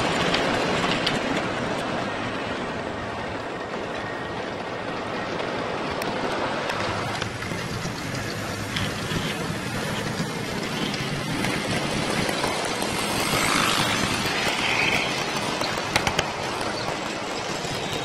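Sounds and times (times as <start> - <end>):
model train rumbling whir: 0.0 - 18.0.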